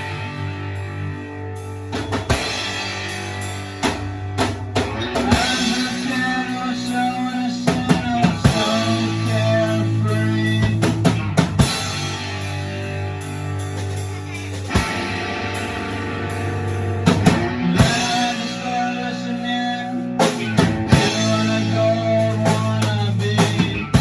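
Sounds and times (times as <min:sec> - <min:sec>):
guitar lead line: 0:00.0 - 0:24.0
rock band jamming: 0:00.0 - 0:24.0
drum hits and fills: 0:01.8 - 0:18.6, 0:20.2 - 0:24.0.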